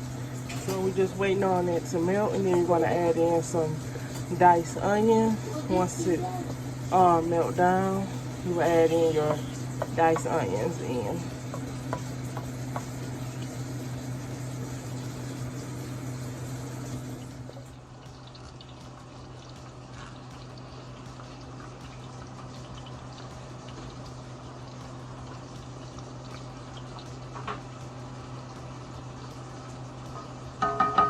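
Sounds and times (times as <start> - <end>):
pots bubbling: 0.0 - 31.0
steady low hum: 0.0 - 31.0.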